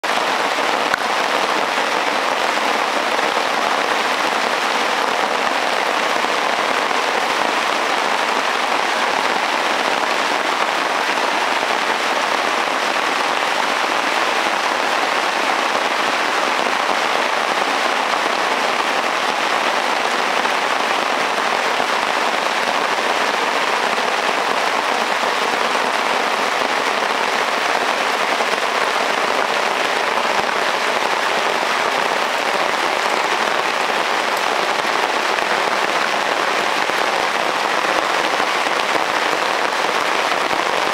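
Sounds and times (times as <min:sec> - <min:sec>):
heavy rain on tarp and foliage: 0:00.0 - 0:40.9.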